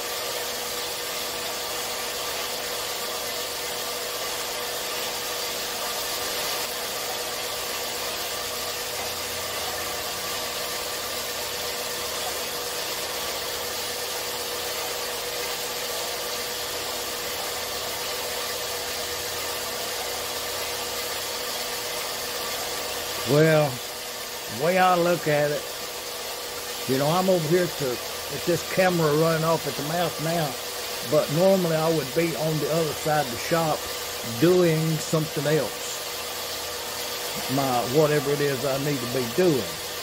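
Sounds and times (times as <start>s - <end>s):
motor hum: 0.0s - 40.0s
bandsaw blade cutting metal: 1.4s - 40.0s.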